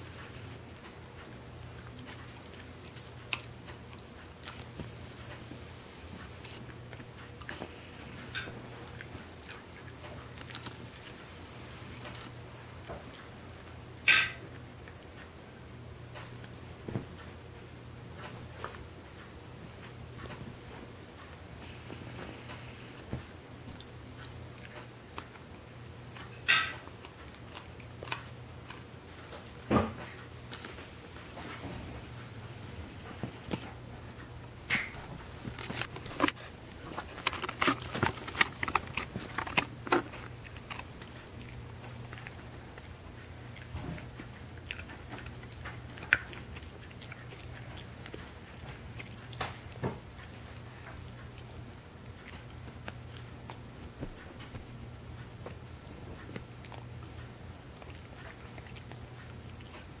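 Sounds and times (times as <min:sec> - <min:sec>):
dog gnawing on a bone: 0:00.0 - 0:17.4, 0:18.0 - 0:32.4, 0:33.1 - 1:00.0
steady low hum: 0:00.0 - 1:00.0.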